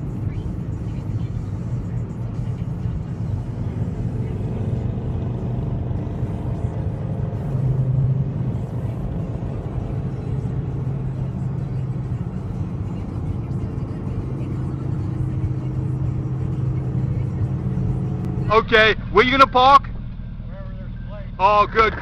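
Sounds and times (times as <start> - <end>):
music playing: 0.0 - 19.7
car interior road noise: 0.0 - 22.0.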